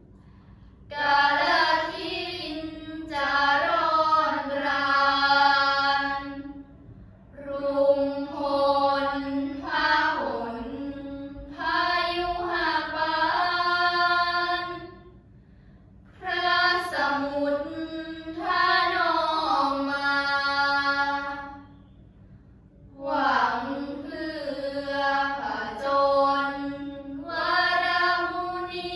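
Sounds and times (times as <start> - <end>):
girls chanting prayers in unison: 0.0 - 28.9.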